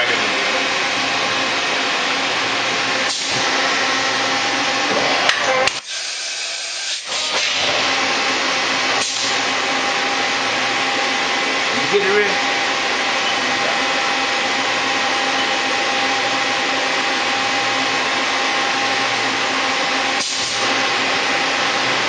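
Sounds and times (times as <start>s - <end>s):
machine hissing and humming: 0.0s - 22.0s.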